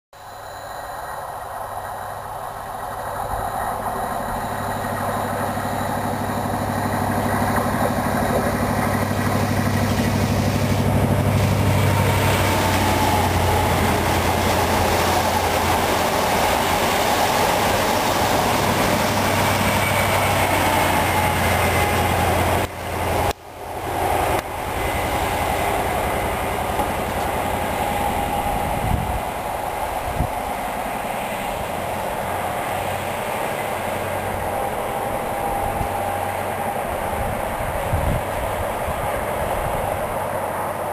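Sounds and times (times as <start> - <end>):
diesel train engine drone: 0.2 - 40.9
high engine whine: 0.2 - 40.9
train wheels rolling on rails: 0.4 - 40.9.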